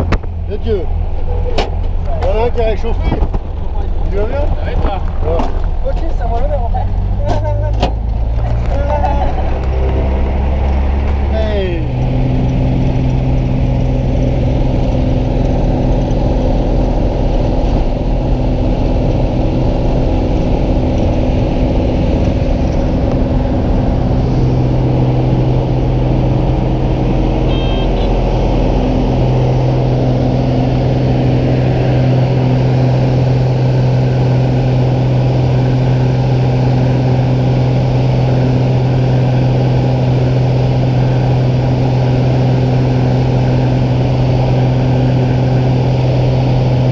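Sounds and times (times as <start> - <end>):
plane engine drone: 0.0 - 46.9.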